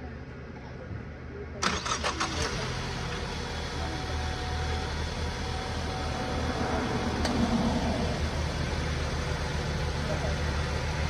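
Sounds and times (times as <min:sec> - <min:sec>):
car engine idling: 0:01.6 - 0:11.0.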